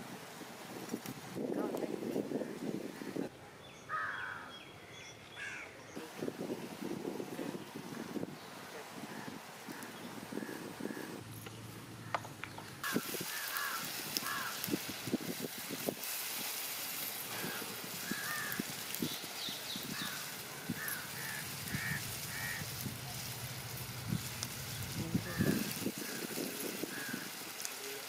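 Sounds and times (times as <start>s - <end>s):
birds chirping: 2.2s - 14.7s, 17.0s - 28.0s.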